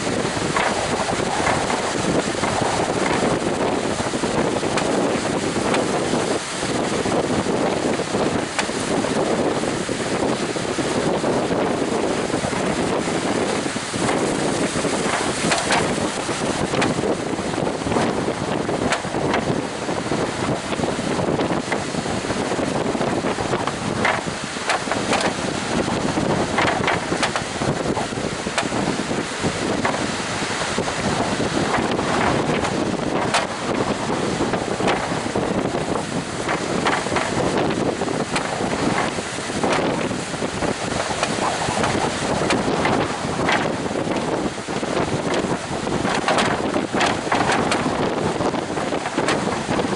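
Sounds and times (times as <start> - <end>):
surf breaking: 0.0 - 49.9
wind buffeting microphone: 0.0 - 49.9.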